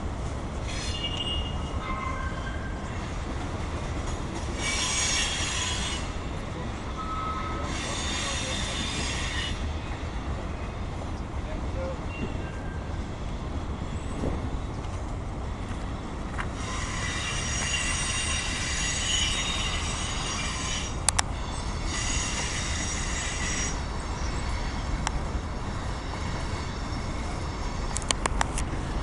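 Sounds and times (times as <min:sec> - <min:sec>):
freight cars rumbling past: 0:00.0 - 0:29.0
wheels squealing on rail: 0:00.5 - 0:11.0, 0:11.6 - 0:14.8, 0:15.6 - 0:28.1.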